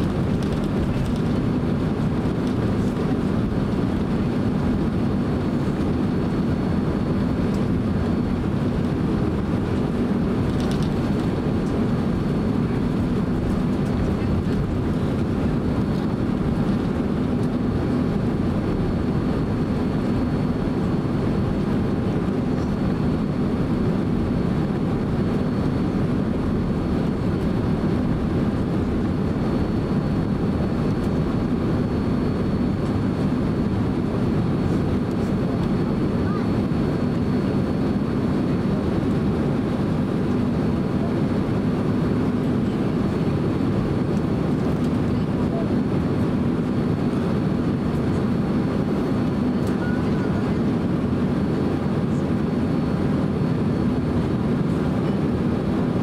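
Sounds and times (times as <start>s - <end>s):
low airliner cabin rumble: 0.0s - 56.0s.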